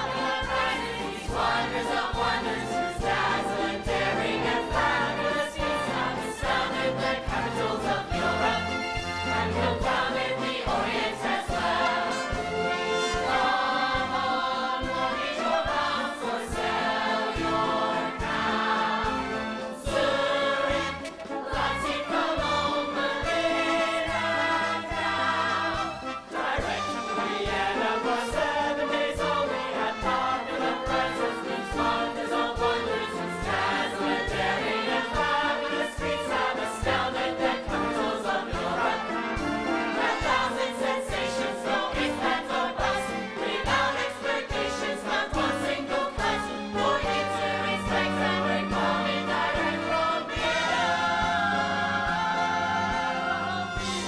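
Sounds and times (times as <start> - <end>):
band playing steady beat: 0.0 - 54.0
group of voices singing: 0.0 - 54.0.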